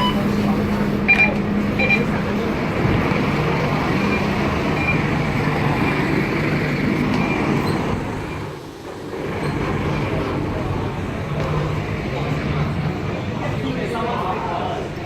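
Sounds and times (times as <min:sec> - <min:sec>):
bus mechanical drone: 0:00.0 - 0:15.0.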